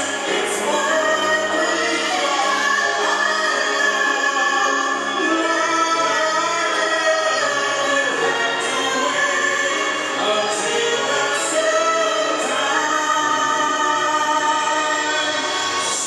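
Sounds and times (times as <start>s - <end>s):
man and woman singing a duet: 0.0s - 16.0s.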